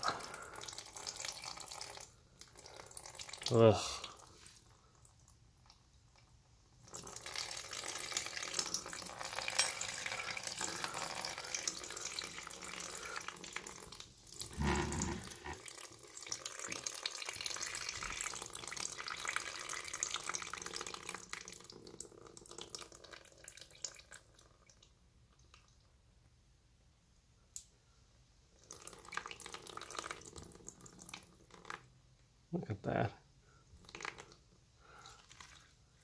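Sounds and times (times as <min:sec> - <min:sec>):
oil pouring into plastic pan: 0:00.0 - 0:25.8, 0:28.5 - 0:32.0, 0:33.8 - 0:35.8.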